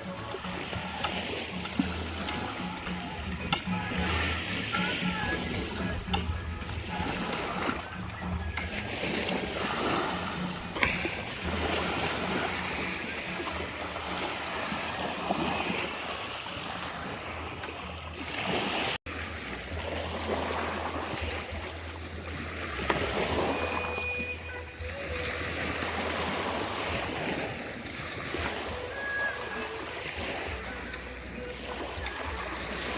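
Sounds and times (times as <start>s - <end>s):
water washing at shore: 0.0s - 32.9s.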